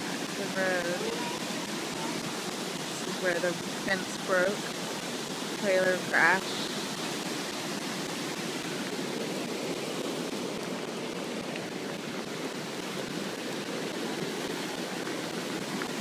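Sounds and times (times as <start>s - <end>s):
floodwater rushing: 0.0s - 16.0s
rain falling: 0.0s - 16.0s.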